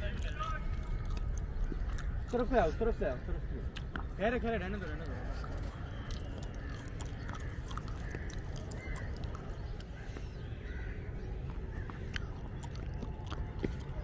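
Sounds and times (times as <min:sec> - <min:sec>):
faint distant calls: 0:00.0 - 0:14.0.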